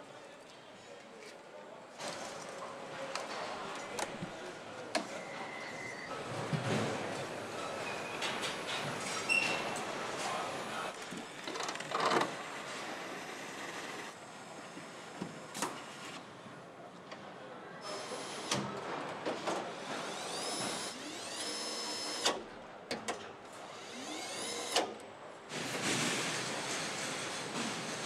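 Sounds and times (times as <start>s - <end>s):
factory noise: 2.0s - 22.9s, 23.6s - 28.0s.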